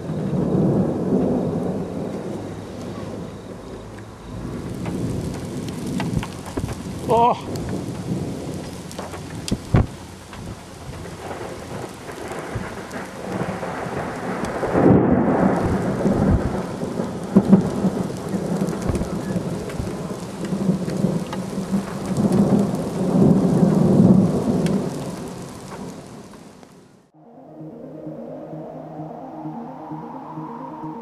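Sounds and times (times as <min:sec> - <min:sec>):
steady rain: 0:00.0 - 0:27.2
thunder rumbling: 0:00.0 - 0:31.0.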